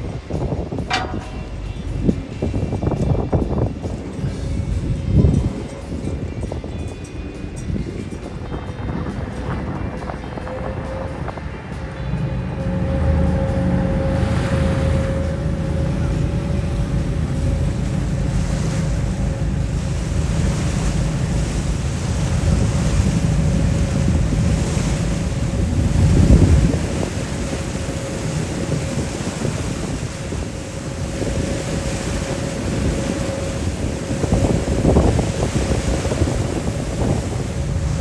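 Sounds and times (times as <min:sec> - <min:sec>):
ferry engine drone: 0:00.0 - 0:38.0
water rushing past hull: 0:00.0 - 0:38.0
wind buffeting microphone: 0:00.0 - 0:38.0.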